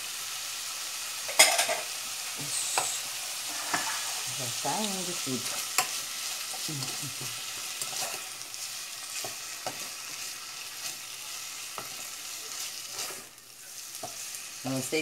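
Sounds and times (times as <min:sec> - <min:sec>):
fish sizzling in a pot: 0:00.0 - 0:15.0
wooden spoon scraping a pan: 0:02.8 - 0:14.9.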